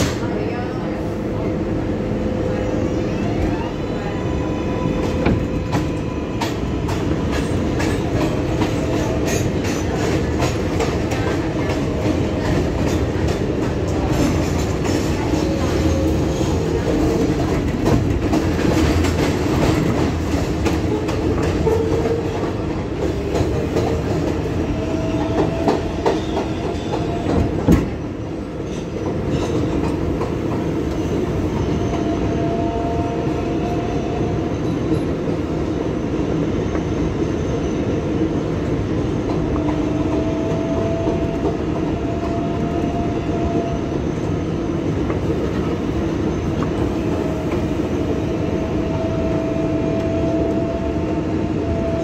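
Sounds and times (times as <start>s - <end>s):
subway car rumbling: 0.0s - 52.0s.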